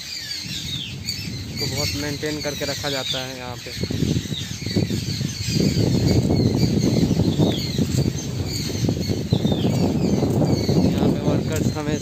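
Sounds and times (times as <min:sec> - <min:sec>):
small birds chirping: 0:00.0 - 0:12.0
wind buffeting microphone: 0:00.0 - 0:12.0.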